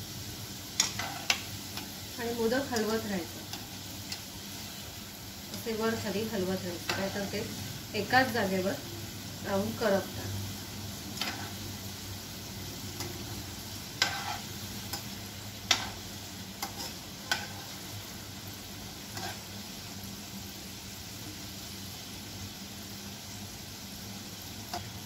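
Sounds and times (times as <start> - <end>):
food deep-frying in hot oil: 0.0 - 25.0.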